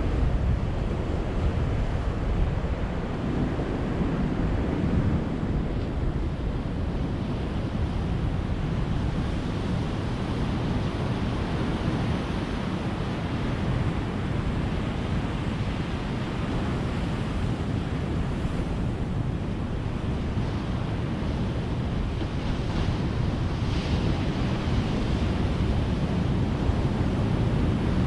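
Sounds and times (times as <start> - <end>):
ocean surf washing: 0.0 - 28.0.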